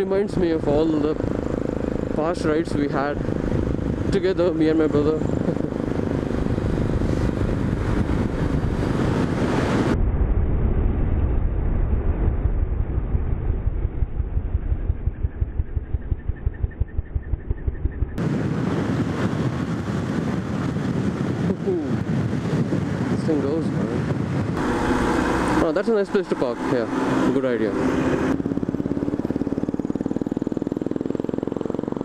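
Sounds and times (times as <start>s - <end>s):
motorcycle engine running: 0.0s - 10.0s, 13.4s - 22.5s, 24.2s - 32.0s
wind buffeting microphone: 0.0s - 32.0s.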